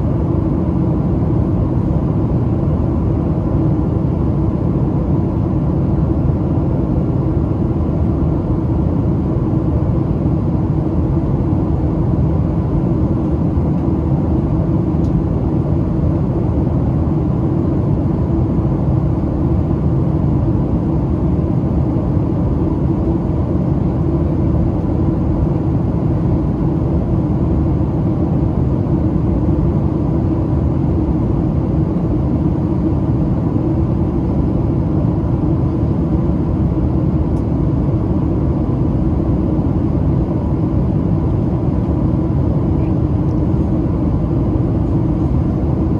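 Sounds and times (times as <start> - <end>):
aircraft engine hum: 0.0 - 45.9
airflow rush in cabin: 0.0 - 45.9.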